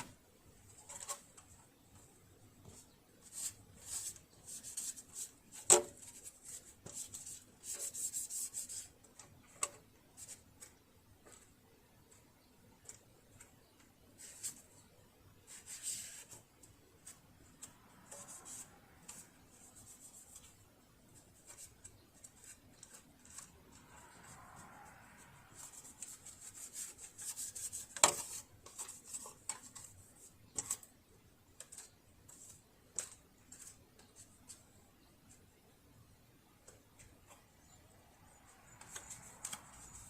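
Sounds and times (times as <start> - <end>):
light rubbing and scraping: 0.0 - 35.5, 36.6 - 40.0.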